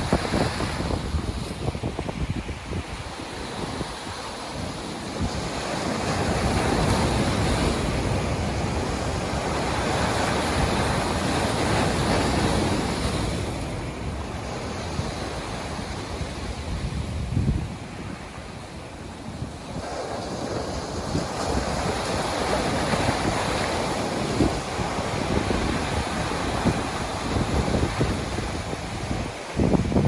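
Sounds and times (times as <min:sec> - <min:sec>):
ocean wave surging: 0:00.0 - 0:30.0
wind buffeting microphone: 0:00.0 - 0:30.0.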